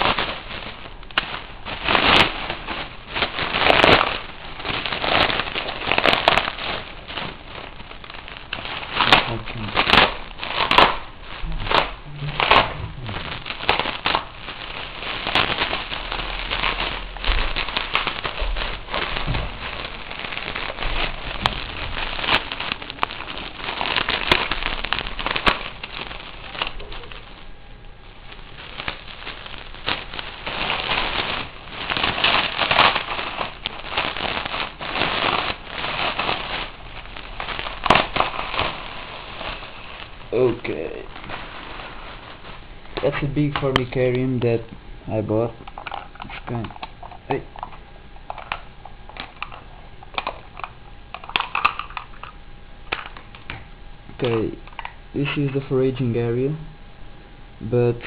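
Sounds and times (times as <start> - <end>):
bubble wrap crinkling and popping: 0.0 - 55.8.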